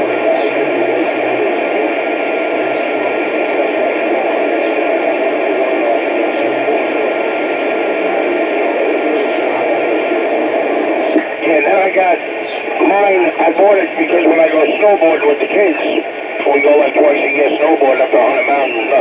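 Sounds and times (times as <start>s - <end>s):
faint garbled voice: 0.0s - 19.0s
radio static hiss: 0.0s - 19.0s.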